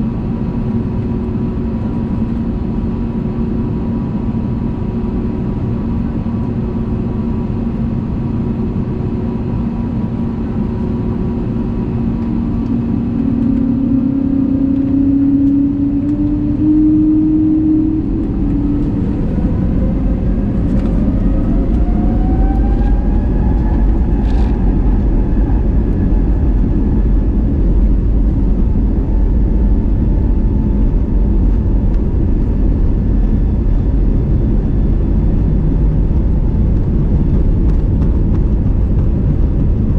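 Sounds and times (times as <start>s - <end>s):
deep takeoff rumble: 0.0s - 39.9s
jet engines whining: 0.0s - 39.9s.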